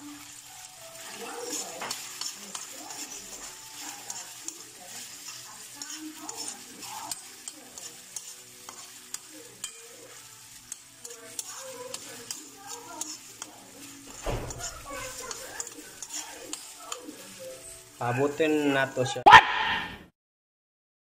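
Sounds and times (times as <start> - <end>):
spoon scraping snail shells in wok: 0.0 - 19.0
frying sizzle: 0.0 - 19.3.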